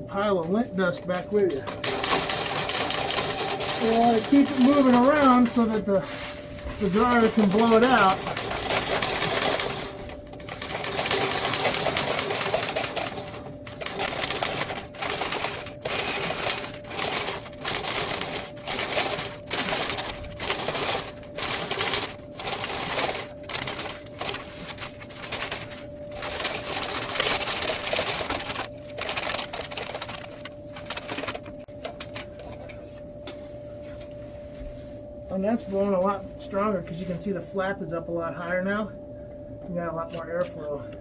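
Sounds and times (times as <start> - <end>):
clothes dryer humming: 0.0 - 41.0.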